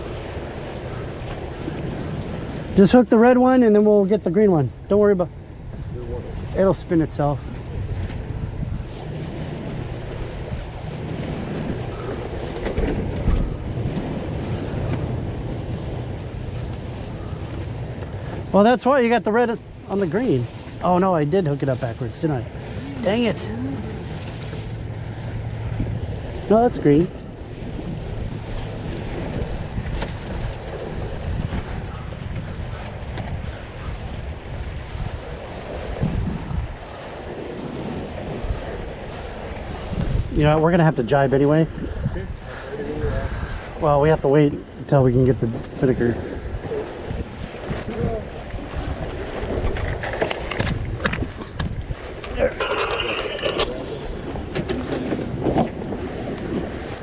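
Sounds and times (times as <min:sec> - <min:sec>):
water rushing past hull: 0:00.0 - 0:57.0
wind buffeting microphone: 0:00.0 - 0:57.0.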